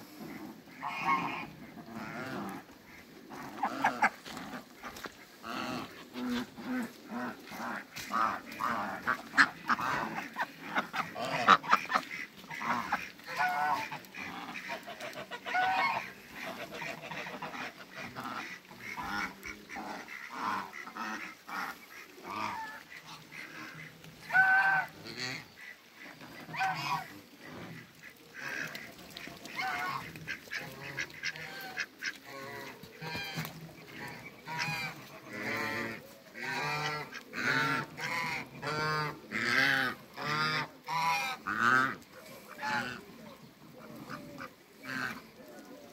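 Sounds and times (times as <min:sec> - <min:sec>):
geese honking: 0:00.0 - 0:45.9.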